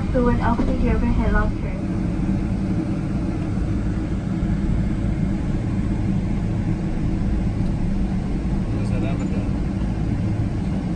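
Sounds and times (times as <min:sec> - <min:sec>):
airplane cabin rumble: 0:00.0 - 0:10.9
low engine hum: 0:00.0 - 0:10.9.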